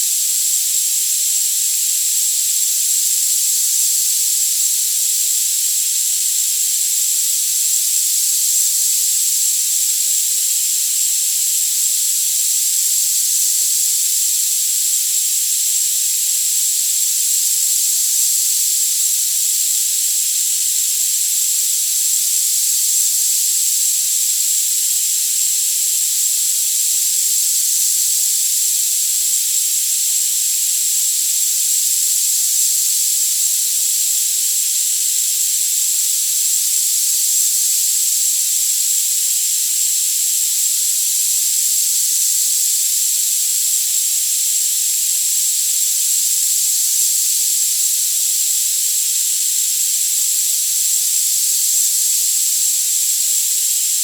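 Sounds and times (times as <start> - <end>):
steady synthetic hiss: 0.0 - 54.0.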